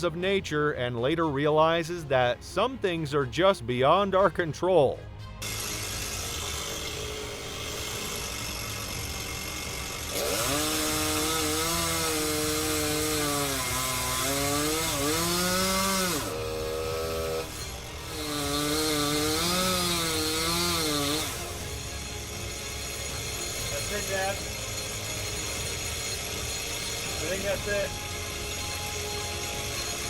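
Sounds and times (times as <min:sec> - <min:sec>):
chainsaw revving and cutting: 0:05.4 - 0:30.0.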